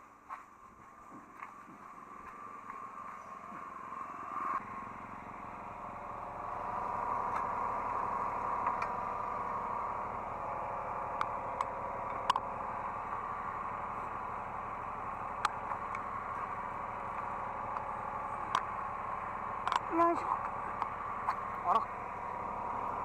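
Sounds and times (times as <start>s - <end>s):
excavator engine and hydraulics: 0.0s - 23.0s
hydraulic whine: 1.9s - 23.0s.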